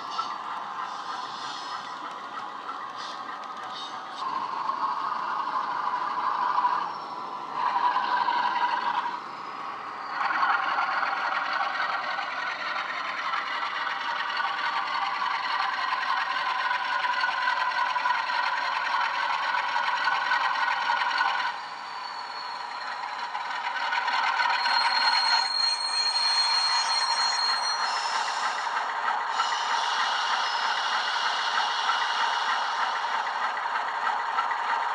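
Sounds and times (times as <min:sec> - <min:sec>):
model train diesel engine sound: 0:00.0 - 0:34.9
model train rattling on track: 0:00.0 - 0:34.9.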